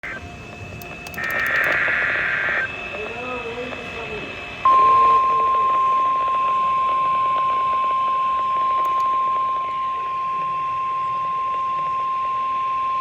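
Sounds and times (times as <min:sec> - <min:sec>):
high warning alarm beep: 0:00.0 - 0:03.0, 0:04.6 - 0:13.0.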